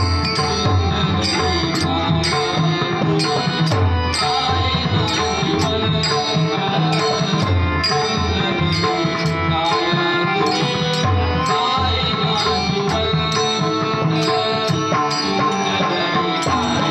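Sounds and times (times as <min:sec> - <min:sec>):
hand drums: 0:00.0 - 0:16.9.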